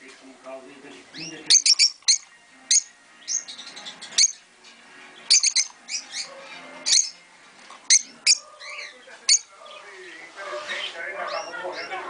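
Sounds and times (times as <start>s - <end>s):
lovebirds chirping: 0.2s - 12.0s.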